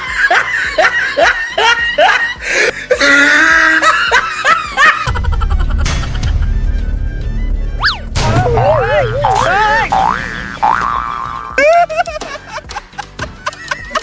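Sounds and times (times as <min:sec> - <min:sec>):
person laughing: 0:00.0 - 0:06.5, 0:08.9 - 0:14.0
background music with deep bass: 0:00.0 - 0:14.0.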